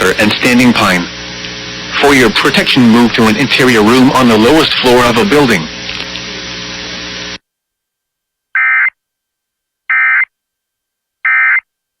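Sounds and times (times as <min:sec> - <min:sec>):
steady hiss with low hum: 0:00.0 - 0:12.0.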